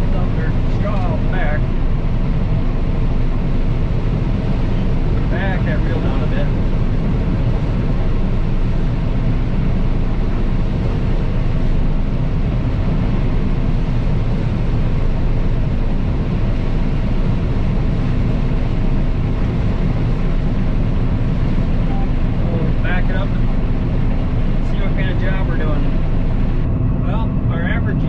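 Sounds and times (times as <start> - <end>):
combine harvester drone: 0.0 - 28.0.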